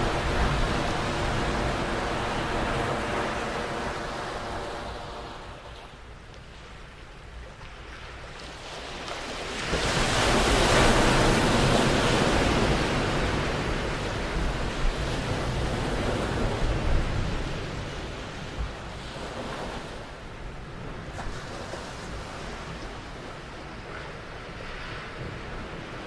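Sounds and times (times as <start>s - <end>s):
small waves breaking on beach: 0.0s - 6.8s, 7.8s - 26.0s.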